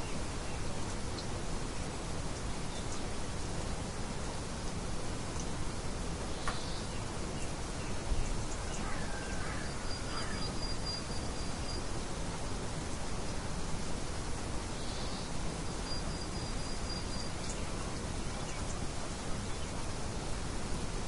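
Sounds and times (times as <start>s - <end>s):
light wind hiss: 0.0s - 21.0s.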